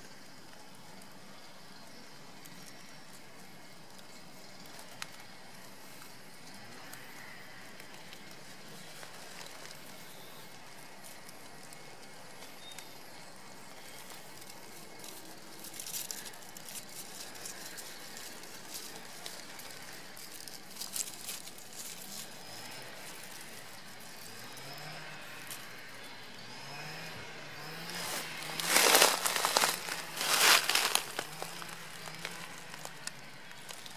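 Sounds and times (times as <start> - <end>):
crackling rustles: 0.0 - 33.9
open air hiss: 0.0 - 33.9.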